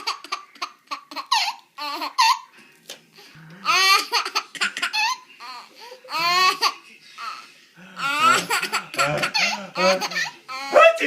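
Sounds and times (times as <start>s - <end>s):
baby laughing: 0.0s - 2.5s, 3.6s - 11.0s.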